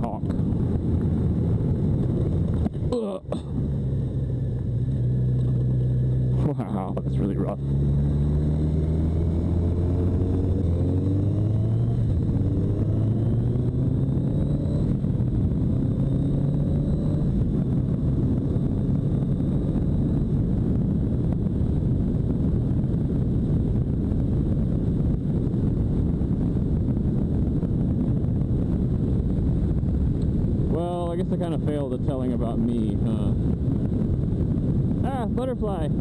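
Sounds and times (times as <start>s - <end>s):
wind noise rushing: 0.0s - 2.9s, 7.8s - 36.0s
motorcycle engine running: 0.0s - 31.0s.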